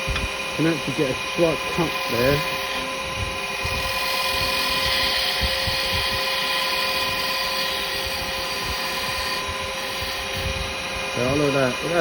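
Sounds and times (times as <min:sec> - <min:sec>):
wood lathe motor whine: 0:00.0 - 0:12.0
chisel cutting wood hiss: 0:00.6 - 0:03.0, 0:03.6 - 0:12.0.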